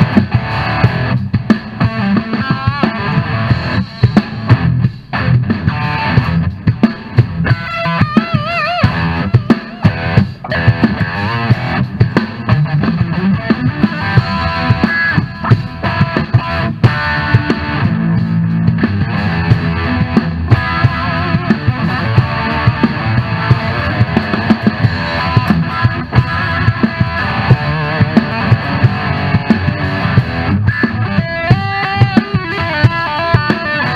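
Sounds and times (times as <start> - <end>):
drum kit: 0.0 - 33.9
electric guitar solo: 1.8 - 3.8, 4.5 - 6.5, 7.2 - 33.9.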